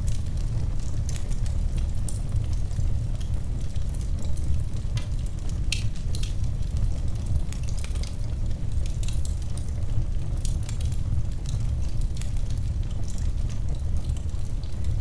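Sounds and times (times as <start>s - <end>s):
burning wood crackling and popping: 0.0s - 15.0s
low rumble of flame: 0.0s - 15.0s.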